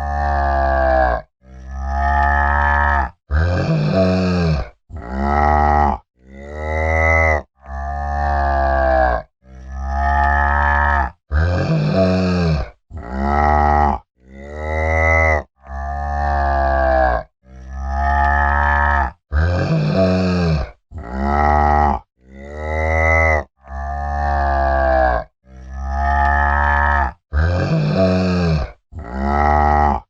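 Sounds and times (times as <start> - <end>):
cow mooing: 0.0 - 30.0.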